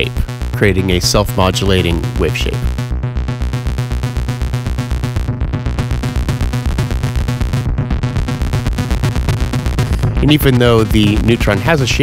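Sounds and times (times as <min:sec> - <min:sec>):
pulsing synthesizer drone: 0:00.0 - 0:12.0.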